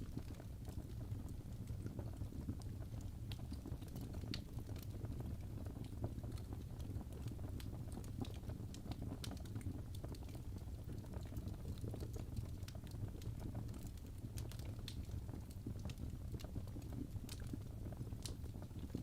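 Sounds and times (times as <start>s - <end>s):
logs crackling and popping: 0.0s - 19.0s.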